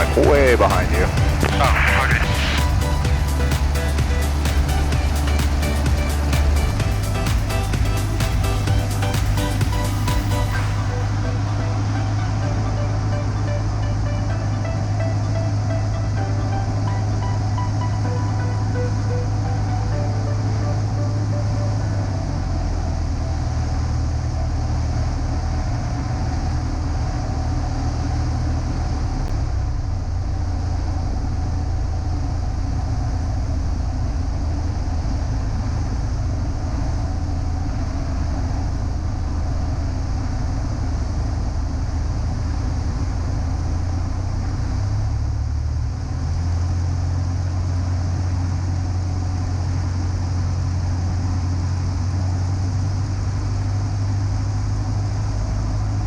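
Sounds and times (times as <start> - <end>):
light aircraft engine drone in cabin: 10.5 - 56.0.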